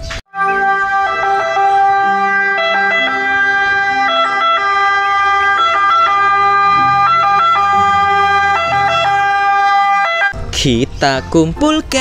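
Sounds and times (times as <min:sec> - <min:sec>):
ambulance siren: 0:00.3 - 0:10.4.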